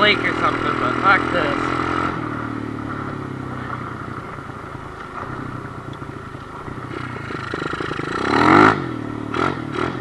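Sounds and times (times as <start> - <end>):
small motorbike engine running: 0.0 - 10.0.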